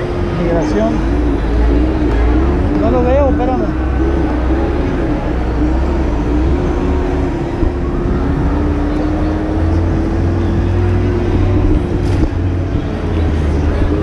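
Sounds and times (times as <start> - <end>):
scooter motor whine: 0.0 - 14.0.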